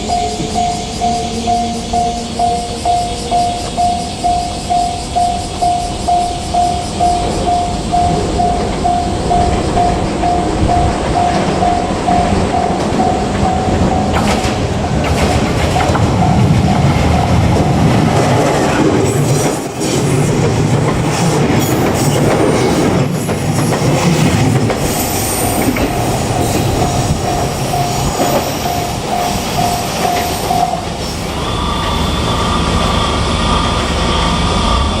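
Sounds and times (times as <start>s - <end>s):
steady high tone: 0.0s - 19.8s, 24.3s - 35.0s
crossing bell ringing: 0.0s - 35.0s
train wheels clattering on rails: 0.0s - 35.0s.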